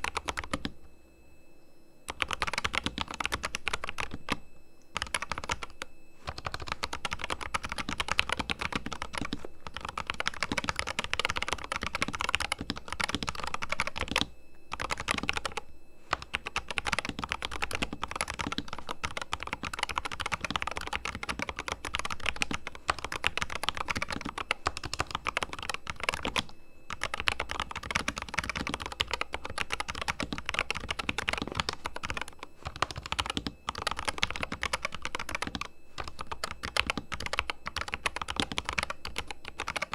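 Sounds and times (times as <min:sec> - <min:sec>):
mechanical keyboard typing: 0:00.0 - 0:00.7, 0:02.1 - 0:04.4, 0:05.0 - 0:39.9.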